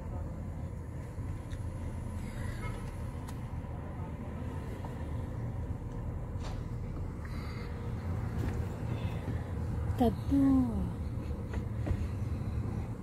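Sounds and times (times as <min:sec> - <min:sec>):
road noise: 0:00.0 - 0:13.0
van engine rumble: 0:00.0 - 0:13.0.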